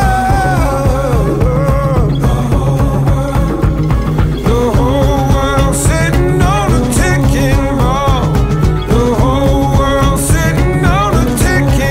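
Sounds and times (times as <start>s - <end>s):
pounding dance beat: 0.0s - 11.9s
wavering melody line: 2.0s - 11.9s.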